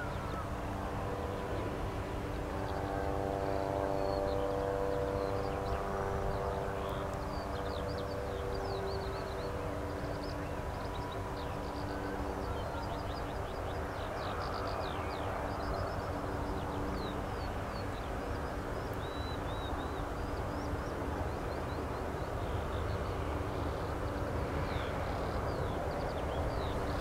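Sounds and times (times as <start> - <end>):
distant helicopter drone: 0.0 - 27.0.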